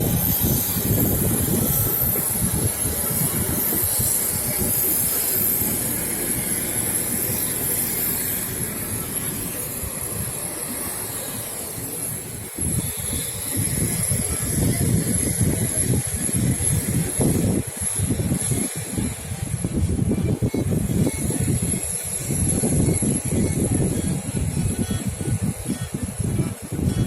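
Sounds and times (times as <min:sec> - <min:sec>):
aircraft engine running: 0:00.0 - 0:27.0.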